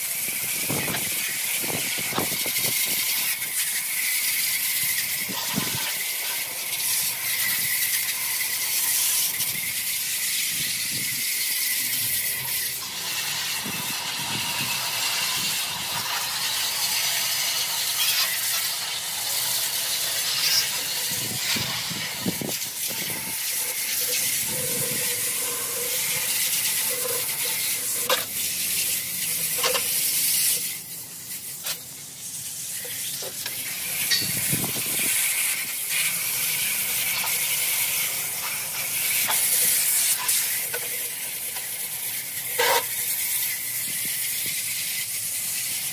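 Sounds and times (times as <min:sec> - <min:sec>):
hose spray hissing: 0:00.0 - 0:45.9.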